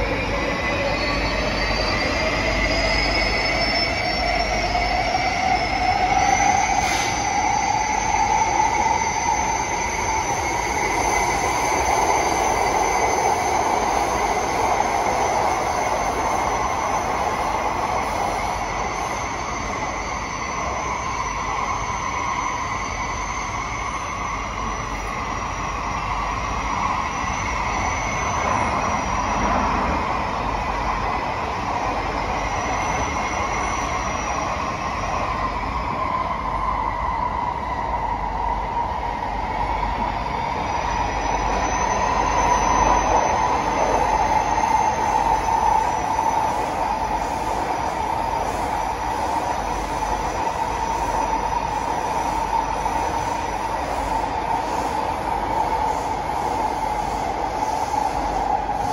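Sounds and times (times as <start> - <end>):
high-pitched whine: 0.0 - 58.9
train wheels rumbling on rail: 0.0 - 58.9.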